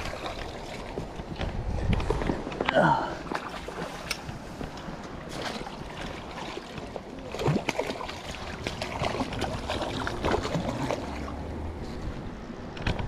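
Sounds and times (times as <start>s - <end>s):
moving water: 0.0s - 13.0s.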